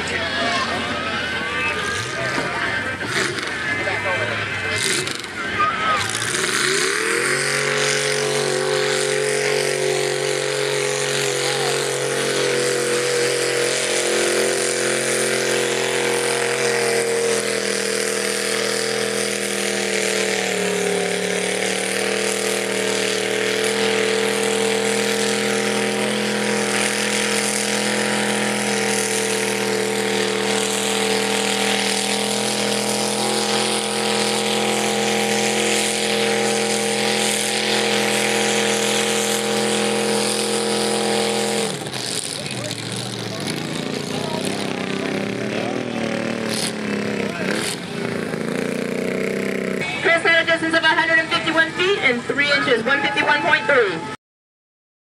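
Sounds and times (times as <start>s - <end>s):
pickup engine revving hard: 0.0s - 53.6s.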